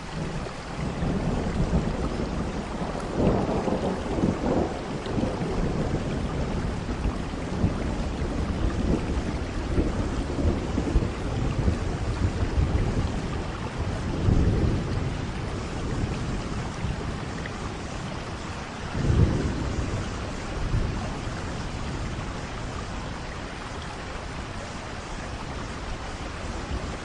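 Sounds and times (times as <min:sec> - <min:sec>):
heavy rain: 0:00.0 - 0:27.0
thunder rumbling: 0:00.0 - 0:27.0.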